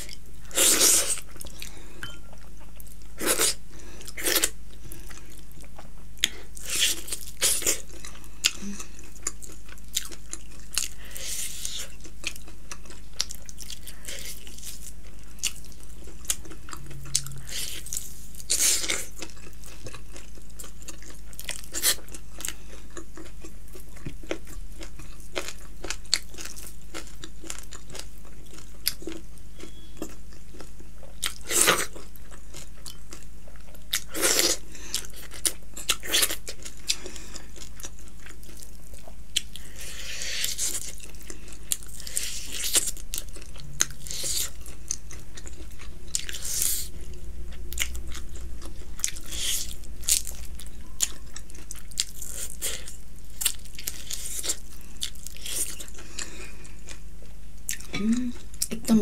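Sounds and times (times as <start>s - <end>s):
steady low hum: 0.0s - 27.6s, 31.7s - 59.0s.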